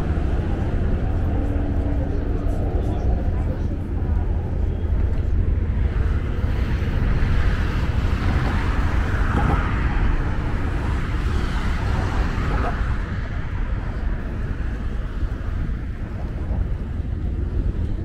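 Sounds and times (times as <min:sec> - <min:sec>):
low rumble of traffic: 0:00.0 - 0:18.0
wind buffeting microphone: 0:00.0 - 0:18.0.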